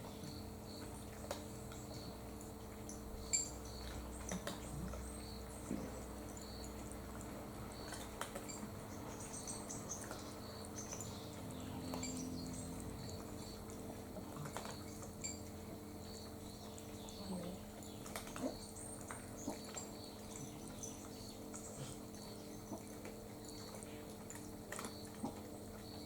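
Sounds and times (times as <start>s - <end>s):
cats eating dry food: 0.0s - 26.0s
small birds chirping: 0.0s - 26.0s
steady low hum: 0.0s - 26.0s.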